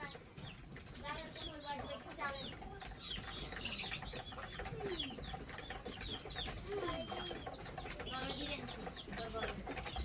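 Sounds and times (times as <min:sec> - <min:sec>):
chickens peeping and chirping: 0:00.0 - 0:10.0
drawn-out chicken calls: 0:00.0 - 0:10.0.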